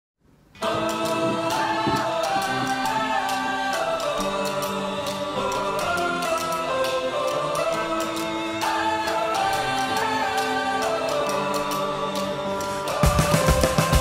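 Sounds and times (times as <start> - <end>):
music with held chords: 0.6 - 14.0.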